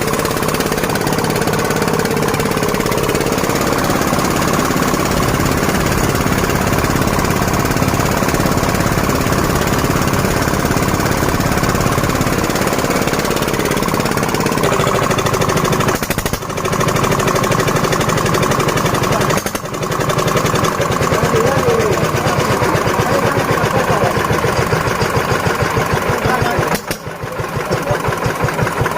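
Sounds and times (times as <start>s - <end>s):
flour mill machine pounding rattle: 0.0s - 28.9s.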